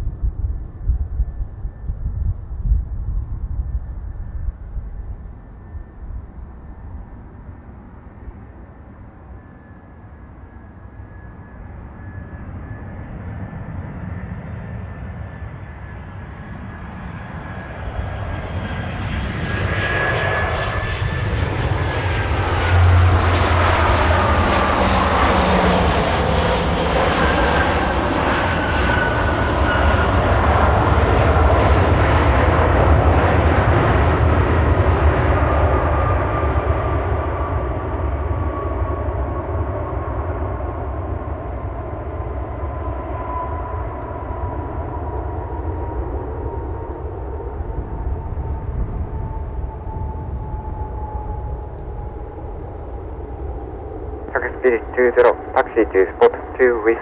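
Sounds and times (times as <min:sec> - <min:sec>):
airliner engines passing: 0:00.0 - 0:57.0.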